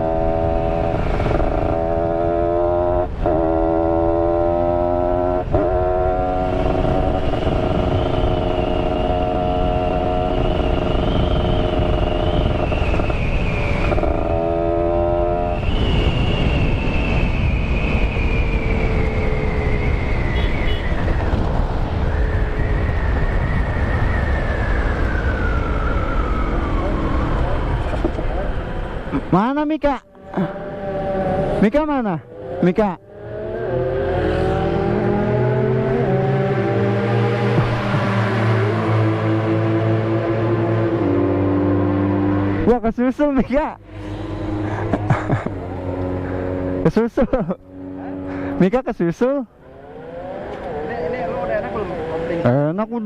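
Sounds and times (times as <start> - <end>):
wind rumble: 4.8 - 29.3, 30.4 - 53.0.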